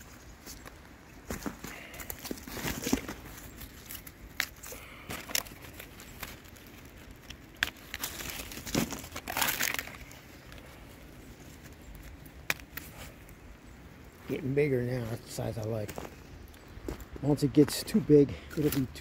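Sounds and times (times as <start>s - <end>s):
dry canes crackling and rustling: 0.0s - 19.0s.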